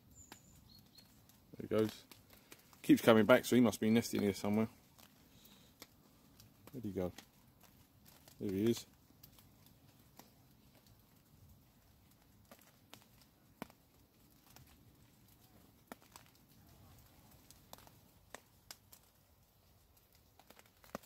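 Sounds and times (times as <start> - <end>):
water dripping ticks: 0.0 - 21.0.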